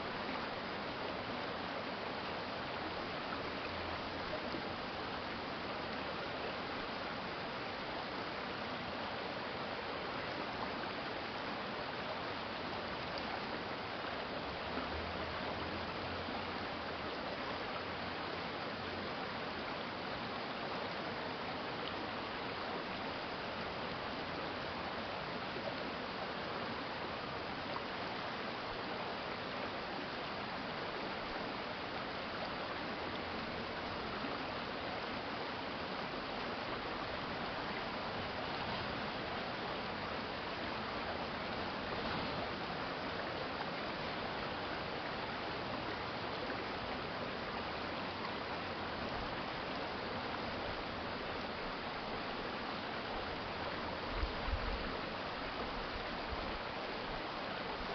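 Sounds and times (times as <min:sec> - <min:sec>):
stream water babbling: 0:00.0 - 0:57.9.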